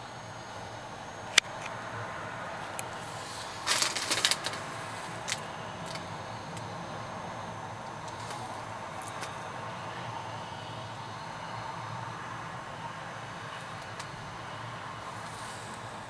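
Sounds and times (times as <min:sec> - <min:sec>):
steady low background hum: 0:00.0 - 0:16.0.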